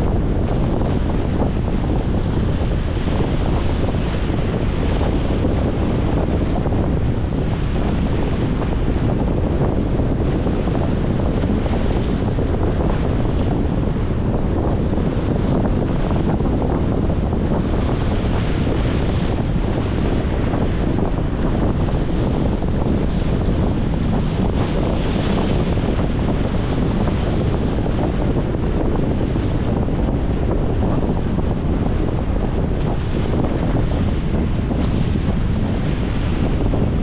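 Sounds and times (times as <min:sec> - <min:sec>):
wind buffeting microphone: 0:00.0 - 0:37.0
waves slapping against a wall: 0:00.1 - 0:37.0.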